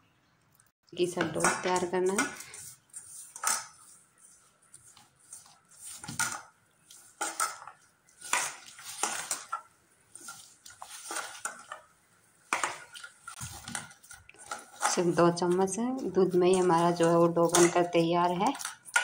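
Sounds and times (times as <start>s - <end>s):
dough scraping metal bowl: 1.1s - 11.9s, 12.5s - 19.0s.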